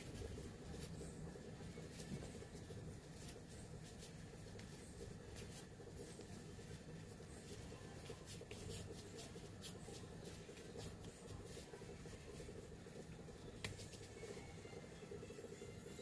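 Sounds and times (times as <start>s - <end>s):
light clicks and scratches: 0.0s - 14.5s
steady low hum: 0.0s - 16.0s.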